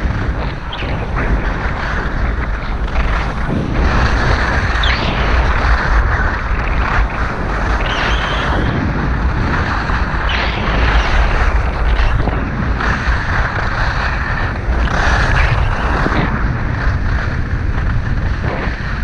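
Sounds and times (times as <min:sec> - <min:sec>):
skis scraping over snow: 0:00.0 - 0:19.0
wind buffeting microphone: 0:00.0 - 0:19.0.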